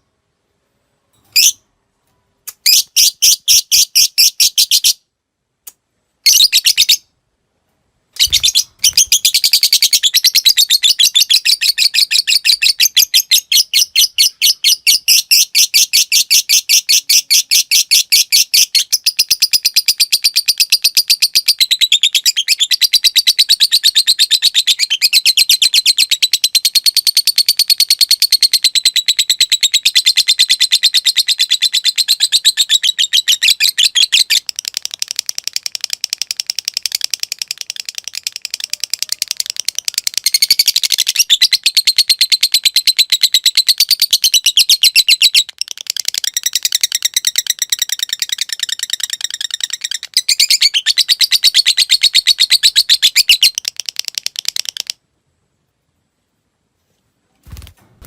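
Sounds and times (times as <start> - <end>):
lovebird chirping and trilling: 1.2 - 1.7, 2.5 - 5.0, 6.2 - 7.1, 8.1 - 55.0.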